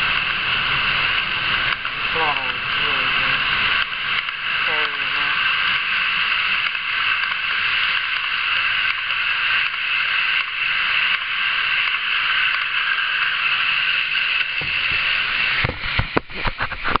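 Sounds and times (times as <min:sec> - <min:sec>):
model train rolling on track: 0:00.0 - 0:17.0.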